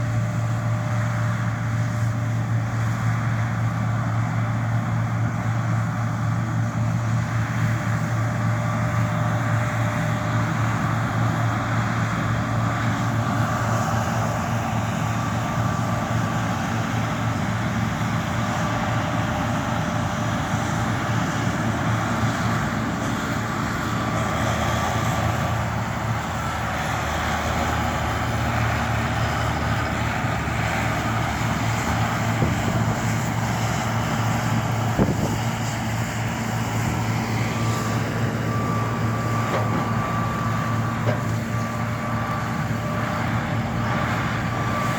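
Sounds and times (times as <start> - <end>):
combine harvester engine drone: 0.0 - 44.9
machinery noise: 5.4 - 44.9.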